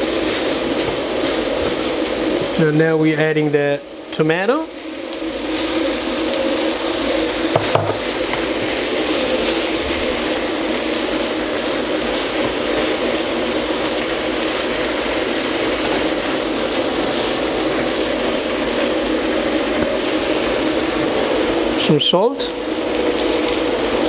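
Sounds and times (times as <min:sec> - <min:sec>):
meat and tomatoes sizzling in pan: 0:00.0 - 0:24.0.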